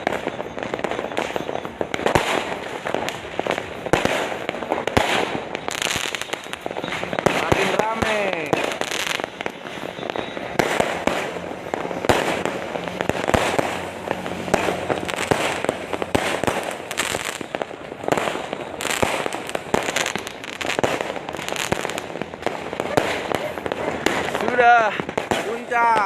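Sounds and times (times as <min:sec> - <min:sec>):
fireworks and firecrackers banging: 0:00.0 - 0:26.0.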